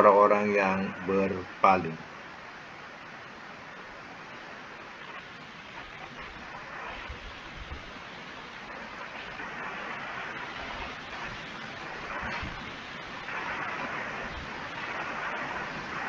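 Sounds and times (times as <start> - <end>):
steady hiss of noise: 0.0 - 16.0.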